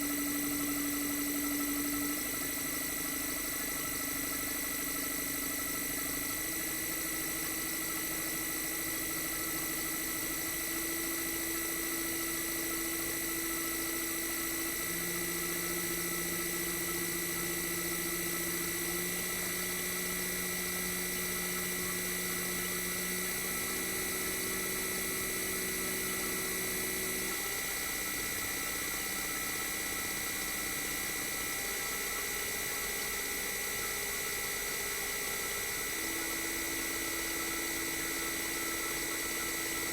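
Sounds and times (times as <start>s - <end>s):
compressor inverter whine: 0.0s - 39.9s.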